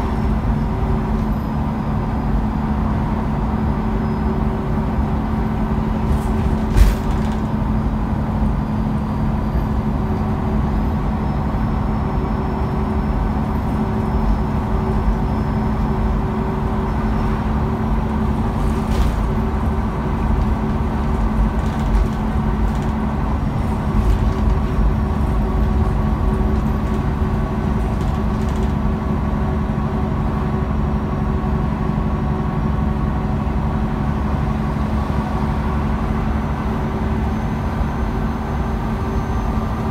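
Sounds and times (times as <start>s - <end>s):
bus engine hum: 0.0s - 39.9s
road rumble: 0.0s - 39.9s.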